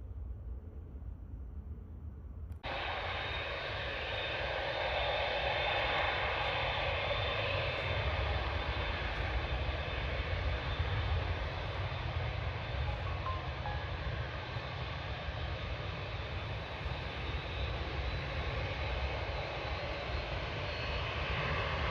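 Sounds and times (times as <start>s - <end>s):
jet engines rushing: 2.6s - 21.9s.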